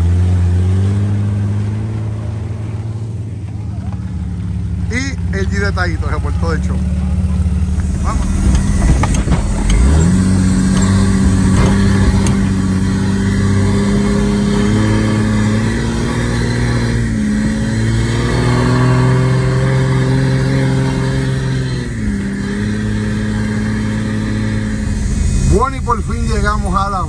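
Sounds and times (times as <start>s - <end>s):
off-road engine under throttle: 0.0s - 27.0s.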